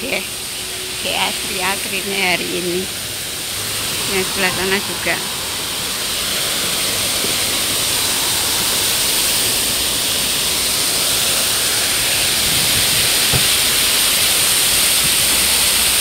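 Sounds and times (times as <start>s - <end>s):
fountain water pouring into basin: 0.0s - 16.0s.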